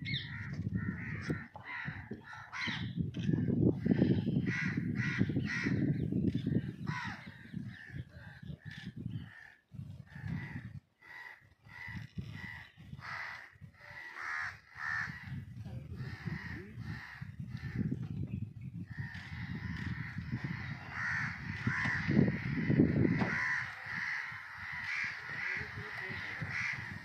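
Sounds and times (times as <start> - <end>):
crows cawing: 0.1 - 3.0, 3.8 - 6.0, 6.8 - 15.4, 16.0 - 17.9, 18.9 - 27.0.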